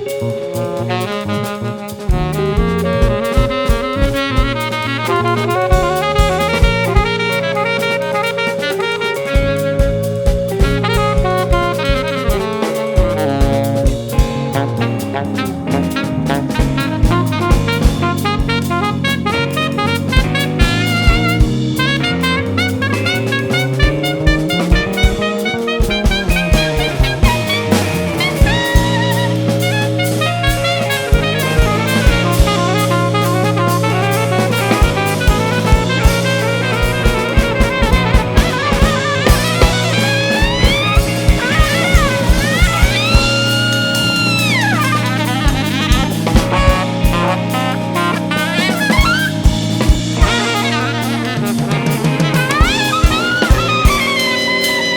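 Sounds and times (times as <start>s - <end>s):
drum kit: 0.0s - 54.9s
jazz fusion band playing: 0.0s - 54.9s
sliding lead line: 2.9s - 54.9s.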